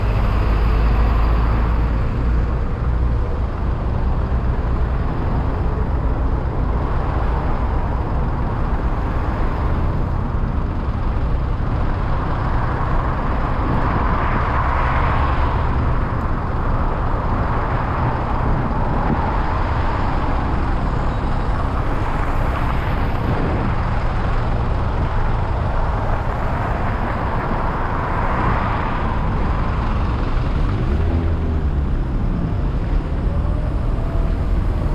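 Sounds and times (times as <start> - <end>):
cars and trucks passing: 0.0 - 34.9
road traffic rumble: 0.0 - 34.9.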